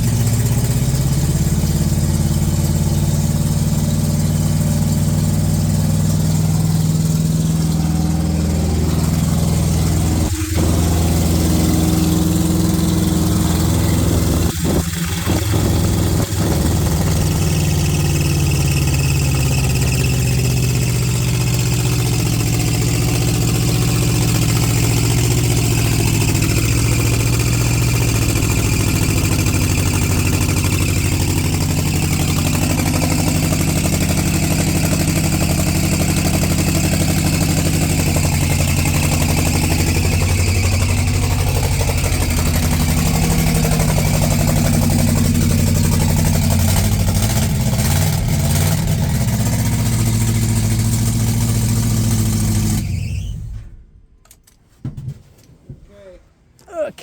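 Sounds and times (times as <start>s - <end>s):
car engine idling: 0.0s - 53.3s.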